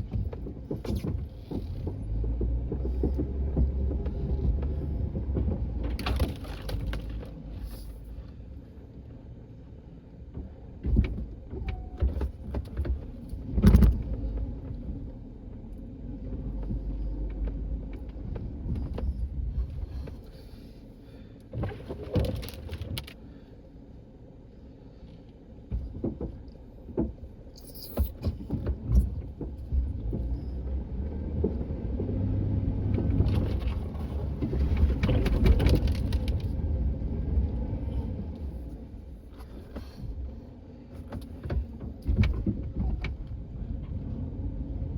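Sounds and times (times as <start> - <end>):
clunks and clatters: 0.0 - 8.1, 10.2 - 20.5, 21.4 - 23.2, 25.6 - 44.2
vehicle engine rumbling: 0.0 - 44.9.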